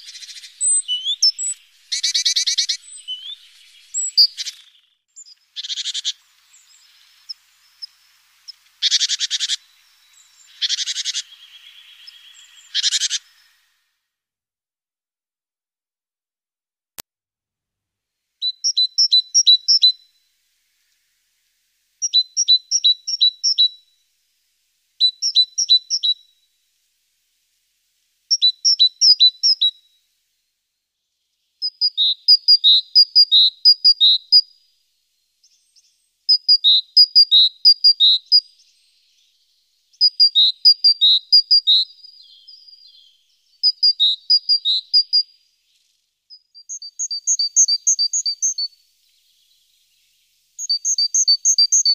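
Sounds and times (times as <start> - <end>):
small songbird singing: 0.0 - 13.9, 18.4 - 51.9.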